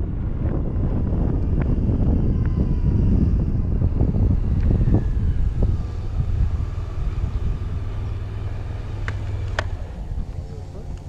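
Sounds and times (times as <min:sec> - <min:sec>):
scooter engine running: 0:00.0 - 0:11.0
wind rumble on microphone: 0:00.0 - 0:11.0.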